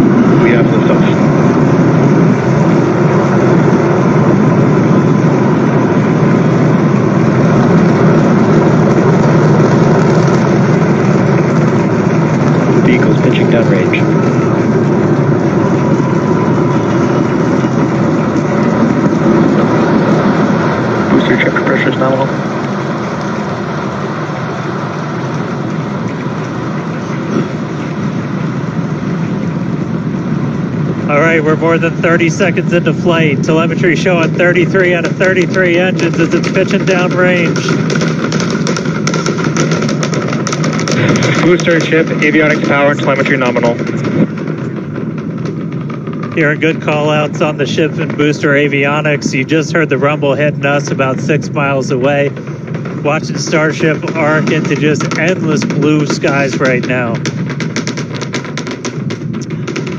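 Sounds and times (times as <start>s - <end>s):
rocket engines roaring: 0.0s - 59.9s.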